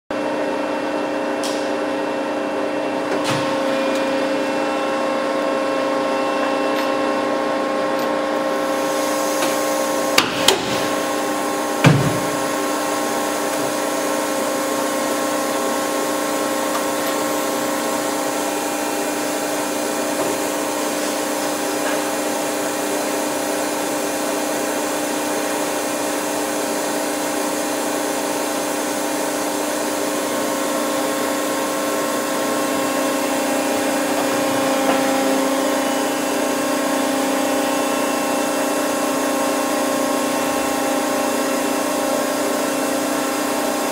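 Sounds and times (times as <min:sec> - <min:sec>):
machine hum: 0:00.2 - 0:43.9.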